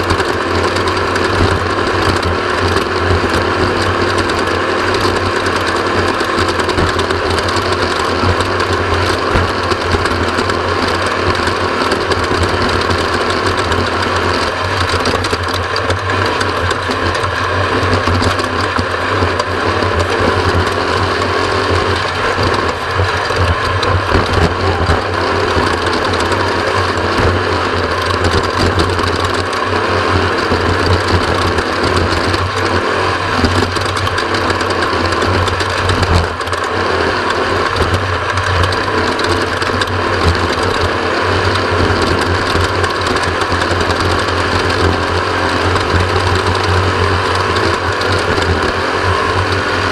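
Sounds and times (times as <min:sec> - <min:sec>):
mechanical rattle: 0:00.0 - 0:48.8
engine running under load: 0:00.0 - 0:49.9.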